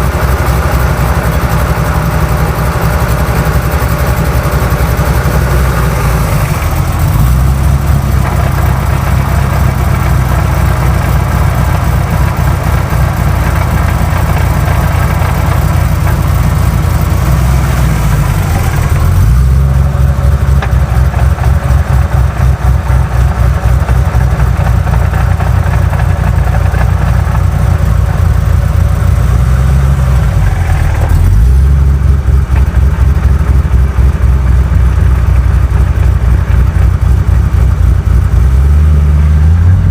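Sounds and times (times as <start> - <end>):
car engine idling with rattle: 0.0 - 39.9.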